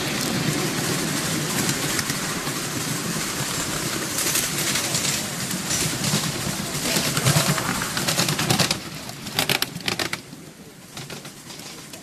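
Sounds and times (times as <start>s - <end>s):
wheels rattling and clicking on track: 0.0s - 12.0s.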